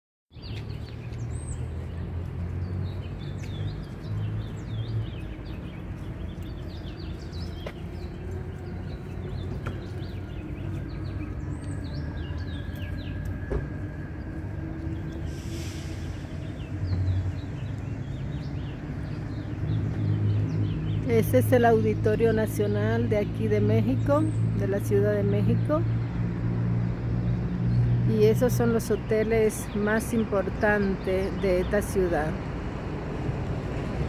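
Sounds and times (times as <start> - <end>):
birds chirping: 0.3 - 32.4
low rumble of city traffic: 0.3 - 34.0.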